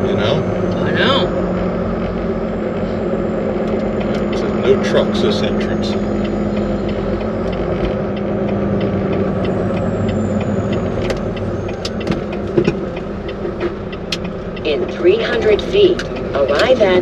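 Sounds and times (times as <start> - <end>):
road noise: 0.0 - 17.0
truck engine drone: 0.0 - 17.0.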